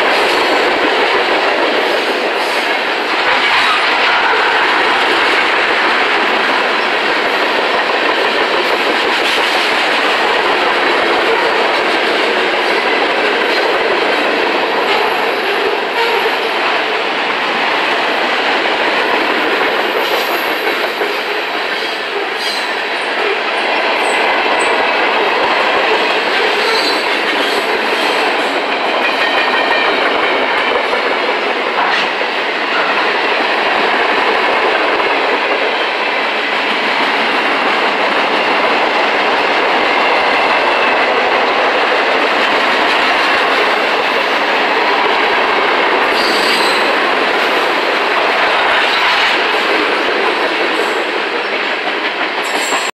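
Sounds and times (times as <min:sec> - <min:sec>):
steel train wheels on rails: 0:00.0 - 0:53.0.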